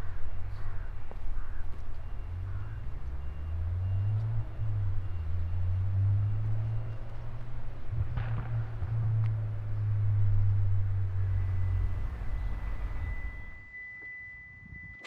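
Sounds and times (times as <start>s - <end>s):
car engine running: 0.2s - 13.6s.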